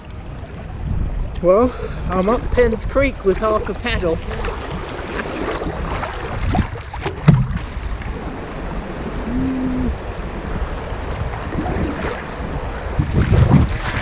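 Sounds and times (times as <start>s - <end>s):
paddle dipping and splashing: 0.0s - 14.0s
water rushing past boat: 0.0s - 14.0s
wind buffeting microphone: 0.0s - 14.0s.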